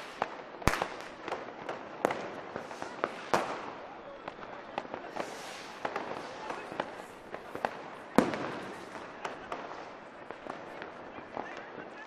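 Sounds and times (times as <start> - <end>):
firecracker bangs and pops: 0.0 - 11.7.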